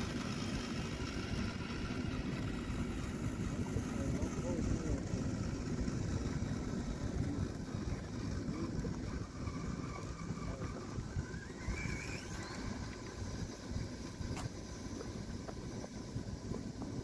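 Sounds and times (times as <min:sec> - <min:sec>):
electric motor whine: 0:00.0 - 0:17.0
wind buffeting microphone: 0:00.0 - 0:17.0.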